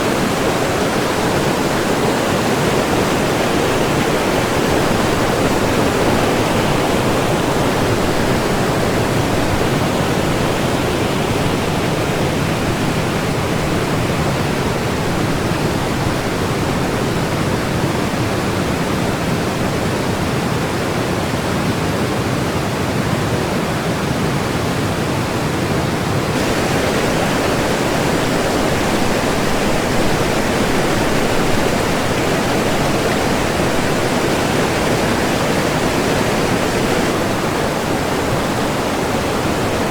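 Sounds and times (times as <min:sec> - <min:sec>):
white water rushing: 0:00.0 - 0:39.9.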